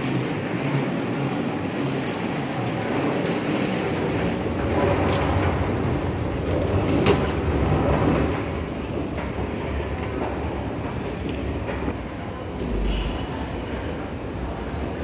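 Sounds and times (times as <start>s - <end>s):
escalator rumble and rattle: 0.0s - 15.0s.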